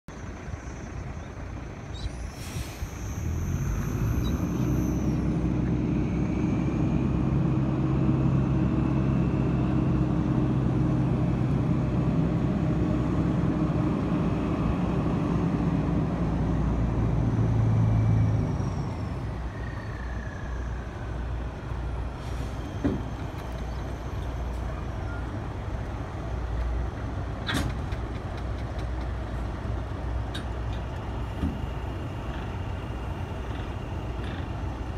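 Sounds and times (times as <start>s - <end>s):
diesel truck engines running: 0.1s - 34.9s.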